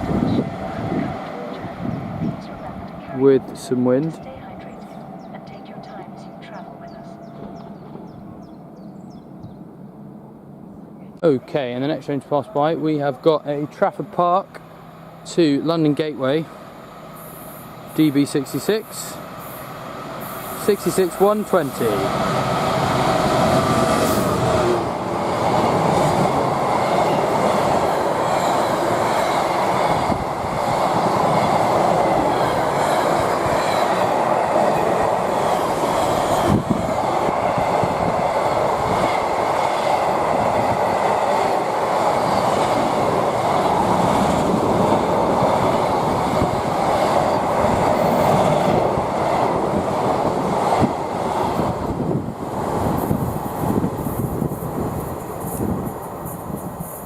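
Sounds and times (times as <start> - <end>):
freight train passing: 0.0 - 57.0.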